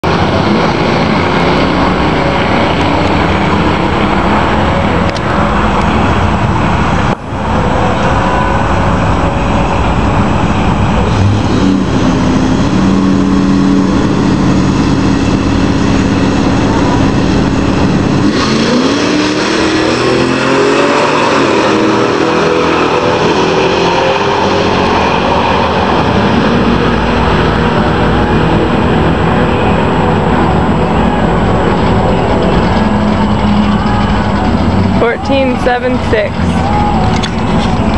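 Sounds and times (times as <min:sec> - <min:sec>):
supercharger whine: 0:00.0 - 0:37.9
truck engine accelerating: 0:00.0 - 0:37.9.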